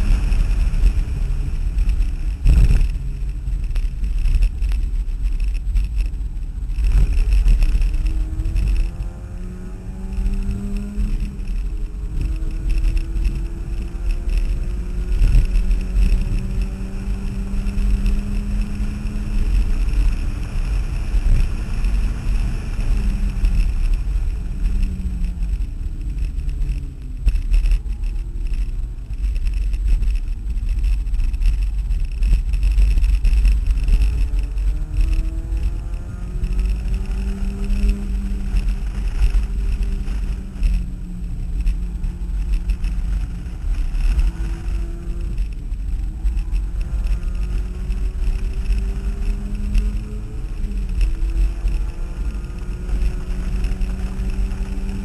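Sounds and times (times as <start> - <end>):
car engine revving: 0.0 - 29.8, 30.5 - 55.0
road and wind rumble: 0.0 - 55.0.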